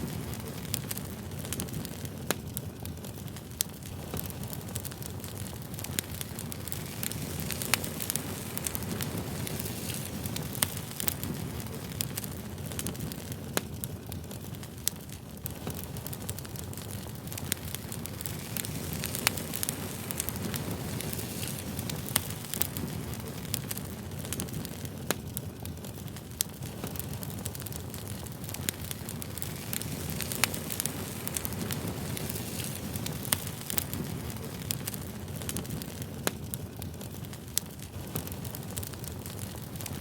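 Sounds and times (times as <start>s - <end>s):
burning wood crackling and popping: 0.0s - 40.0s
campfire flames rushing: 0.0s - 40.0s.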